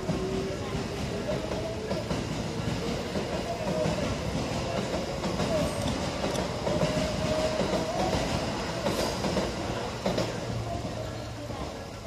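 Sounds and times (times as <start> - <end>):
electric train passing on rails: 0.0 - 12.0.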